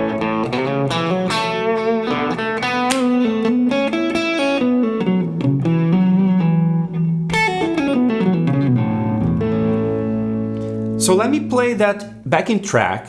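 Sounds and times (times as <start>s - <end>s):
guitar lead lick with slides: 0.0s - 12.4s.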